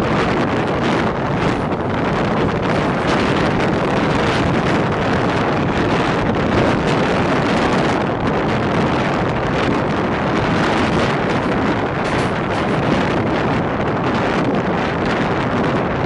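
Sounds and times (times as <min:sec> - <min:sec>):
moving train rumble: 0:00.0 - 0:16.0
wind on microphone: 0:00.0 - 0:16.0.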